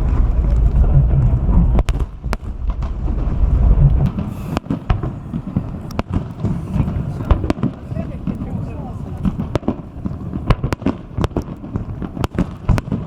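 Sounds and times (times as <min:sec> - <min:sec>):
low rumble: 0:00.0 - 0:12.2
fireworks bangs and crackles: 0:00.0 - 0:13.0.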